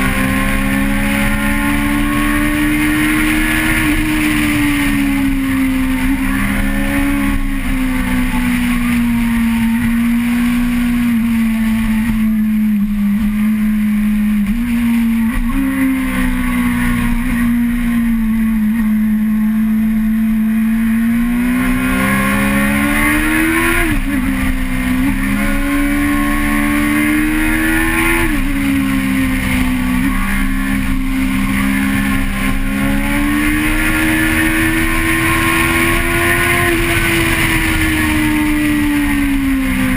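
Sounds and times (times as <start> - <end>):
vehicle engine under way: 0.0 - 39.9.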